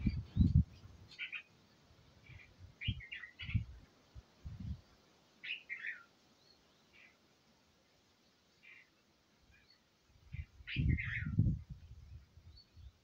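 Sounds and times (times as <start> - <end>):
birds chirping softly: 0.0 - 13.0.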